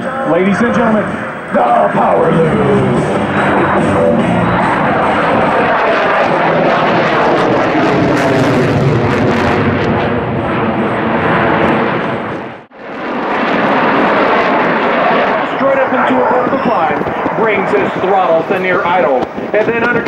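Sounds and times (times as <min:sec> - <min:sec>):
jet engines roaring overhead: 0:00.0 - 0:20.0.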